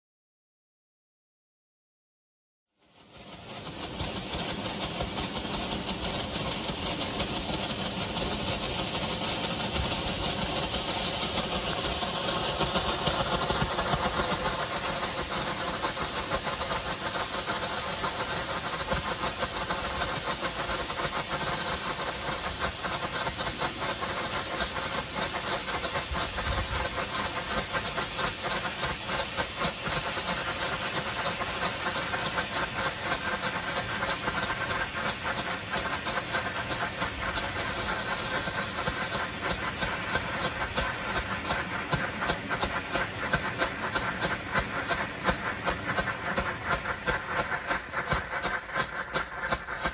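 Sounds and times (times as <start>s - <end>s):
strobe flares hissing and crackling: 2.8s - 49.9s.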